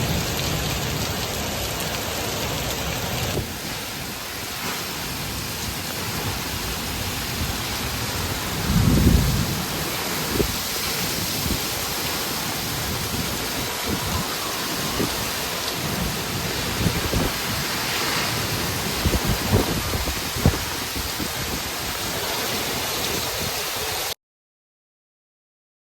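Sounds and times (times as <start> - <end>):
heavy rain pouring: 0.0 - 24.2.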